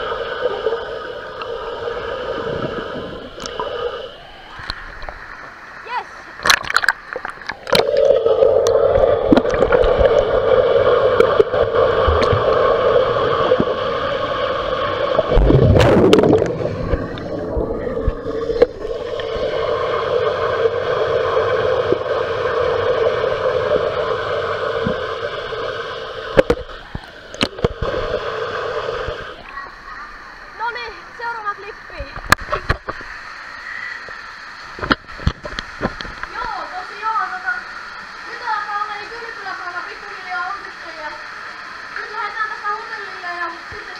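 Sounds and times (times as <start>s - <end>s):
rush of water: 0.0s - 43.9s
underwater droning hum: 0.0s - 43.9s
water gurgling: 0.0s - 43.9s.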